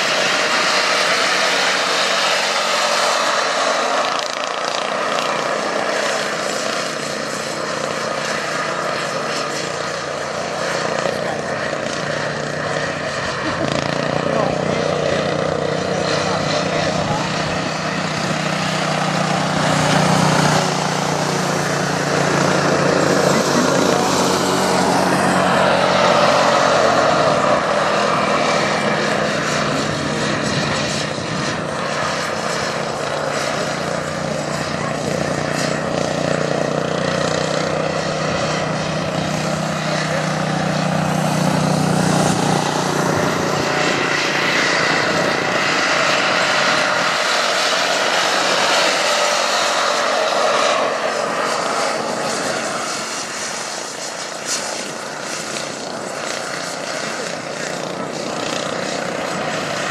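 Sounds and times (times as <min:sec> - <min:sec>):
lawn tractor engine at high revs: 0:00.0 - 0:59.9.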